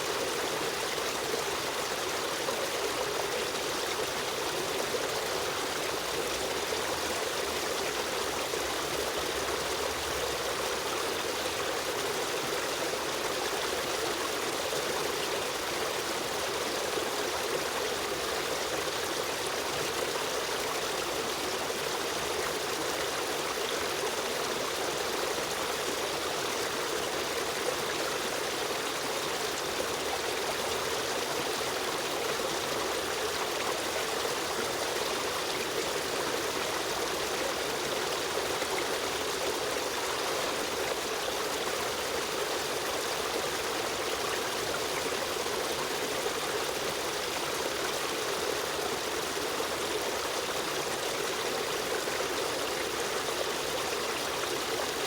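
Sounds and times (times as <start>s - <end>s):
stream of flowing water: 0.0s - 55.0s.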